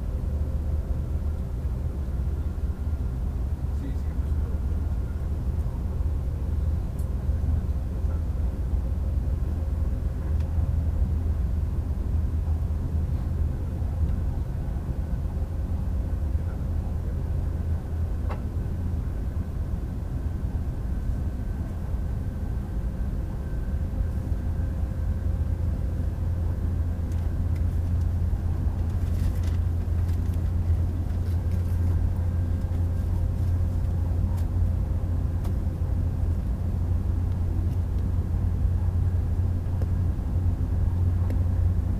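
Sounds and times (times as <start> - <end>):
faint steady hum: 0.0 - 41.9
train rumbling at speed: 0.0 - 41.9.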